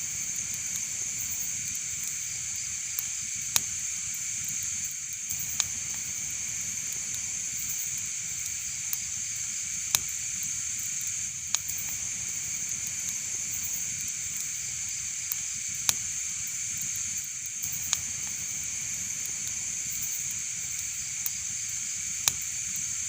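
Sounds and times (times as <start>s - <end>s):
fire crackles and pops: 0.0s - 23.0s
wood fire hissing: 0.0s - 23.0s.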